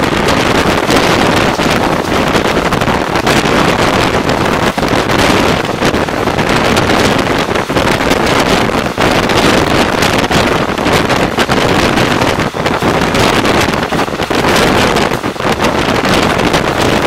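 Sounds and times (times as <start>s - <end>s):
train running noise: 0.0s - 17.0s
wind buffeting microphone: 0.0s - 17.0s.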